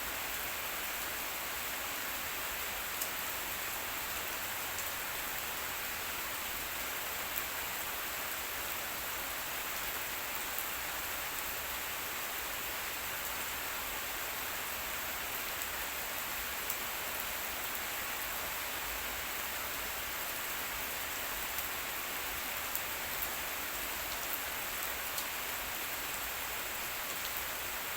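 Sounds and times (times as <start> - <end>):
steady rain hiss: 0.0 - 27.9.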